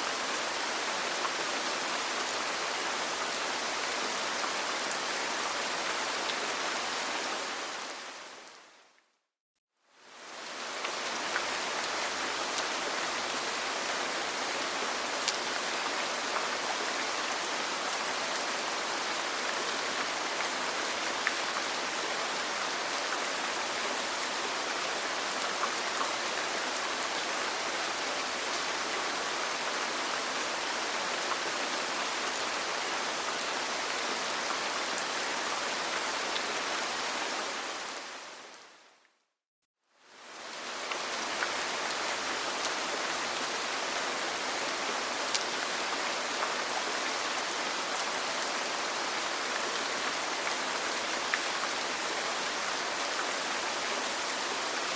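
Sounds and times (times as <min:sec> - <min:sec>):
rain on a roof: 0:00.0 - 0:09.0, 0:09.9 - 0:39.0, 0:40.0 - 0:54.9.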